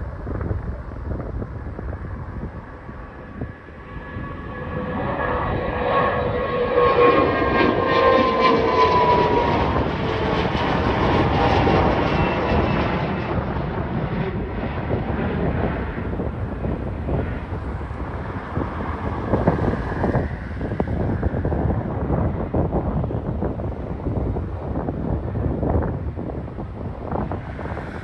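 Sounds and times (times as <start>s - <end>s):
falling jet engine whine: 0.0s - 28.0s
jet engine roar: 0.0s - 28.0s.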